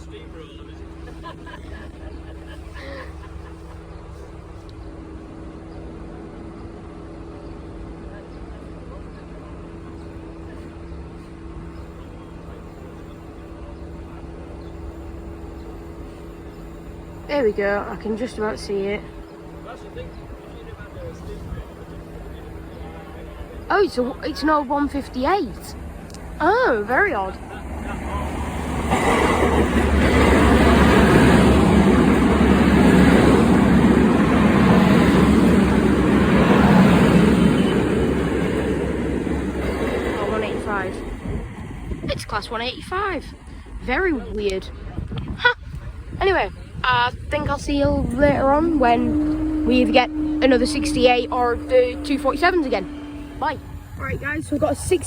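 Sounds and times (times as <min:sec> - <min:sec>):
diesel engine humming: 0:00.0 - 0:44.9, 0:45.9 - 0:55.0
train rumbling past: 0:00.0 - 0:55.0.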